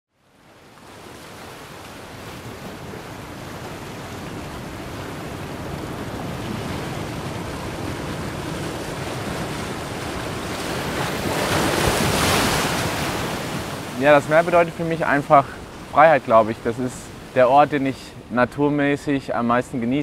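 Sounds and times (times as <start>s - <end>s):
ocean waves breaking: 0.1s - 20.0s.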